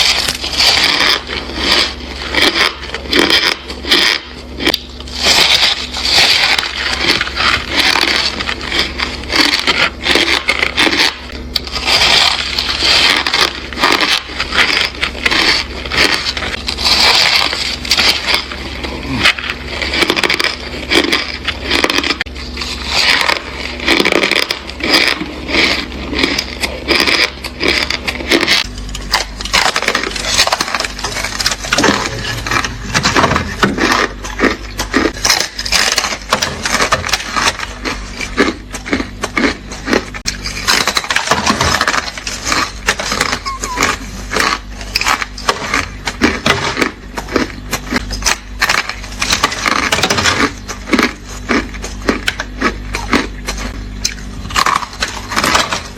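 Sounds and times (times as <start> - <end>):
ice being chewed: 0.0 - 55.9.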